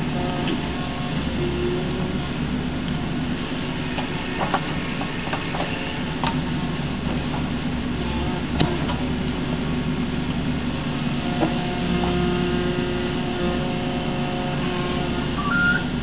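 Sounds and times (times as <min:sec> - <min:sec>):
excavator diesel engine running: 0:00.0 - 0:16.0
hydraulics whining: 0:00.0 - 0:16.0.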